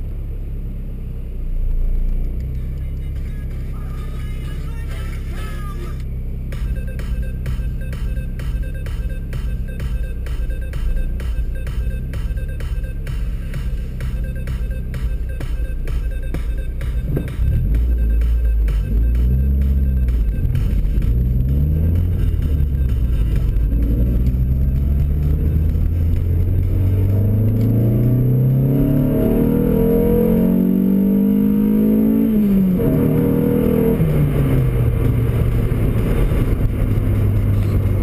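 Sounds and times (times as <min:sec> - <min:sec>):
car engine revving at full throttle: 0:00.0 - 0:38.0.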